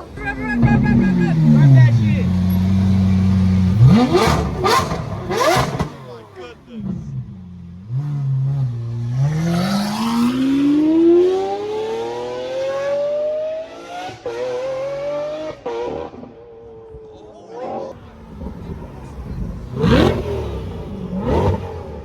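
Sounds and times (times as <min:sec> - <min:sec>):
car engine accelerating: 0:00.0 - 0:16.4, 0:17.9 - 0:22.0.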